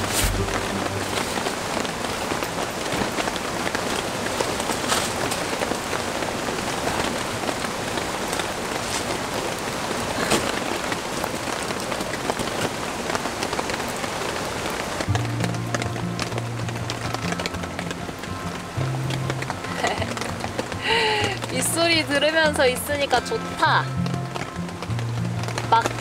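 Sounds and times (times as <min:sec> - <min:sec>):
flowing stream: 0:00.0 - 0:26.0
rain on tent fabric: 0:00.0 - 0:26.0.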